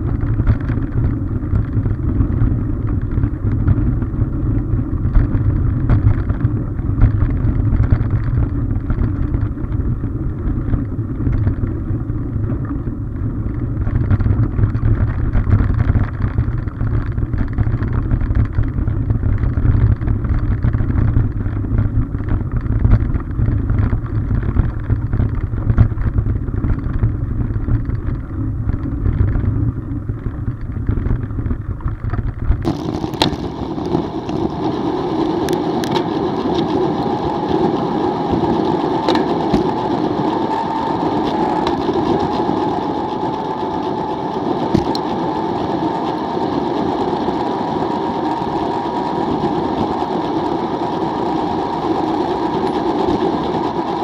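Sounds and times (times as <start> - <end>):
bike tyre noise: 0.0 - 54.0
high steady hum: 0.0 - 54.0
wind rumble: 0.0 - 54.0.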